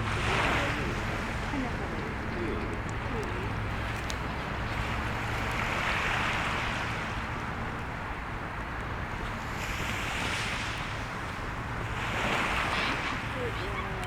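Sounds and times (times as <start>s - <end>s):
surf washing onto shore: 0.0s - 14.0s.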